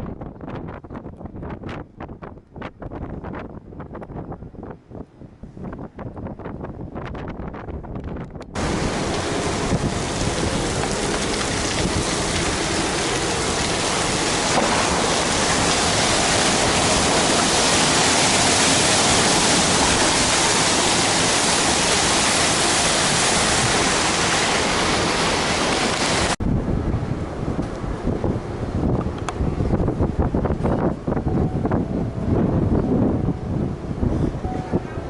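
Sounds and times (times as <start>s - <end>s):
wind and sea rushing: 0.0s - 35.0s.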